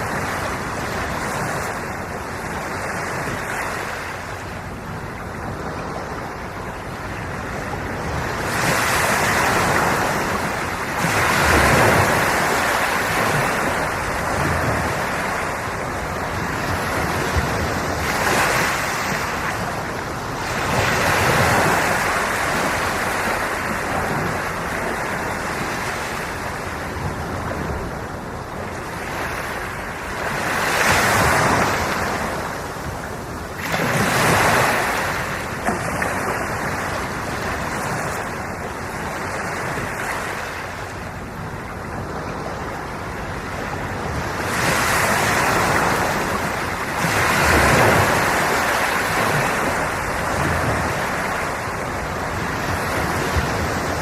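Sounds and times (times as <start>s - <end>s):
ocean waves breaking on shore: 0.0s - 54.0s
wind on microphone: 0.0s - 54.0s.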